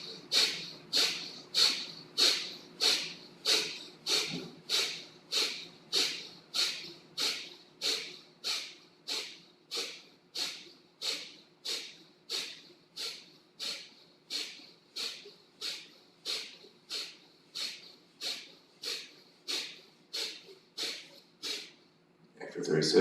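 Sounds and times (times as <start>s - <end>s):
sharp forceful exhales through nose: 0.0s - 21.8s.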